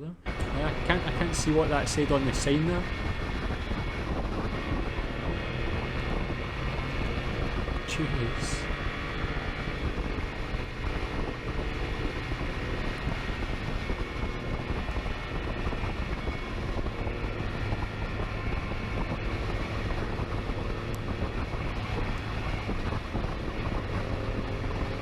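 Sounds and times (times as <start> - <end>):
vehicle engine driving fast: 0.0 - 25.0
wind noise: 0.3 - 25.0.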